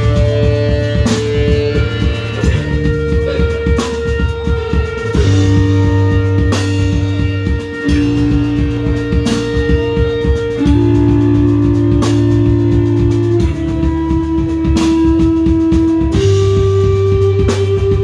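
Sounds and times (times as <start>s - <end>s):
busy drumming: 0.0s - 18.0s
electric bass guitars: 0.0s - 18.0s.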